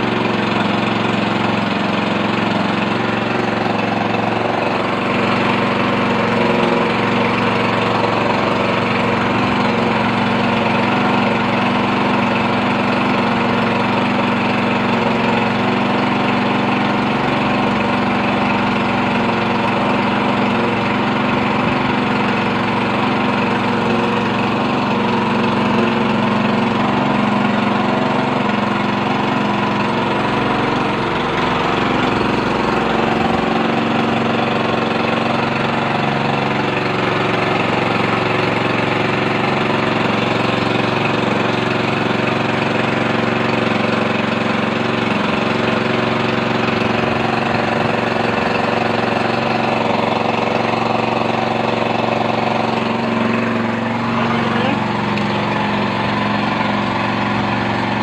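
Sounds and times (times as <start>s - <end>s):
small engine water pump running: 0.0s - 58.0s.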